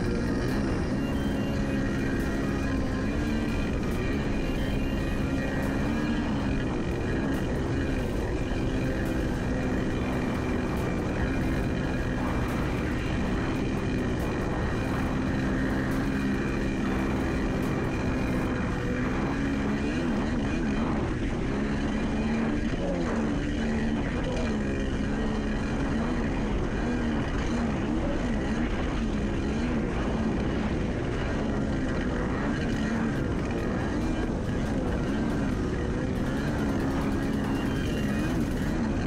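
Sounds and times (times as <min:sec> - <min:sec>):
jet ski engine running: 0:00.0 - 0:39.0.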